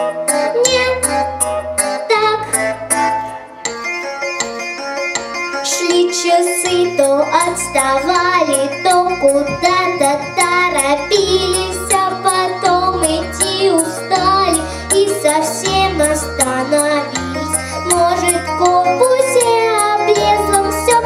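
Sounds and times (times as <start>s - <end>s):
pop backing track with beat: 0.0s - 21.0s.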